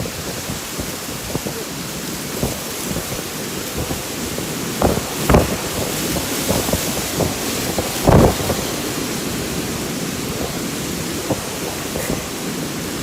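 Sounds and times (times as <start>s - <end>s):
storm wind and heavy rain: 0.0s - 13.0s.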